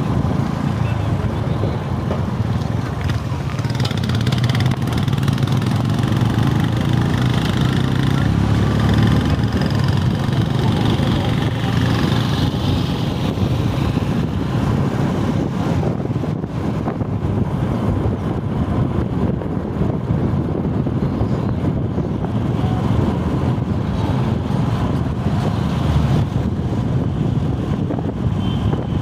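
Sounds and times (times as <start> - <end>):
motorbike engine and road noise: 0.0 - 29.0
wind rushing over microphone: 0.0 - 29.0.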